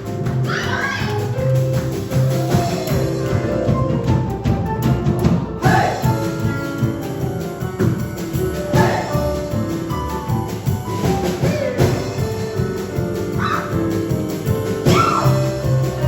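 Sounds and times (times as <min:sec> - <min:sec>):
drum kit and percussion: 0:00.0 - 0:16.0
live band playing upbeat tune: 0:00.0 - 0:16.0.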